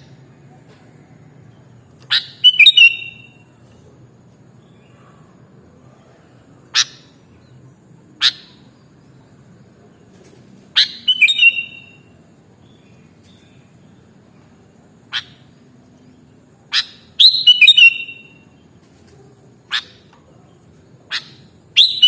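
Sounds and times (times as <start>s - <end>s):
bird calling: 0.0s - 3.5s, 4.6s - 7.6s, 8.2s - 9.0s, 10.3s - 14.2s, 15.0s - 22.0s.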